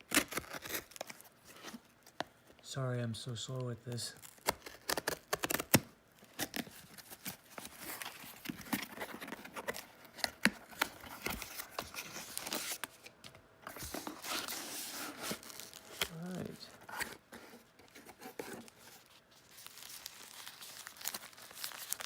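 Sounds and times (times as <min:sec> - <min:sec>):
packaging tearing and crinkling: 0:00.0 - 0:01.9, 0:04.2 - 0:13.1, 0:13.7 - 0:17.2, 0:17.8 - 0:22.0.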